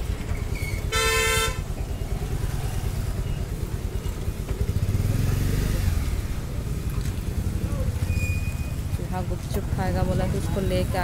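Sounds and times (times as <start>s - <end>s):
road traffic rumbling: 0.0s - 11.0s
vehicle engine passing close: 0.0s - 11.0s.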